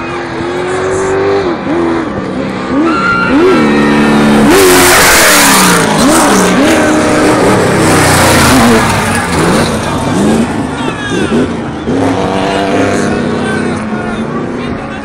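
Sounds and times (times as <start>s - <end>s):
race vehicle engines at full throttle: 0.0s - 15.0s.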